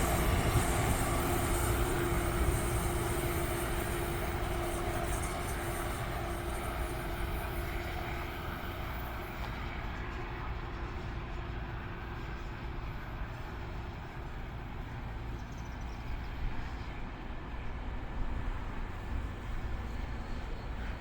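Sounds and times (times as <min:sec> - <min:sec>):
train rumble and rail noise: 0:00.0 - 0:21.0.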